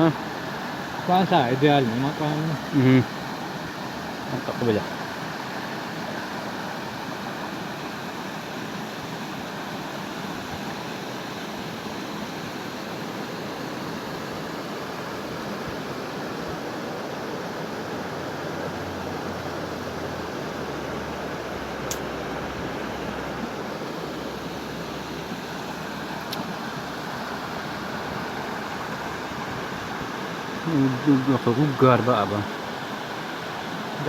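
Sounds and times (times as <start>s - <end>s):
fast-flowing water rushing: 0.0s - 34.0s.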